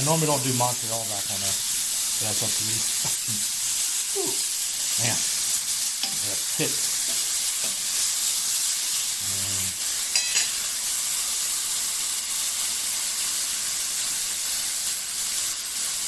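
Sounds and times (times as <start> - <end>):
steak sizzling in skillet: 0.0 - 16.0.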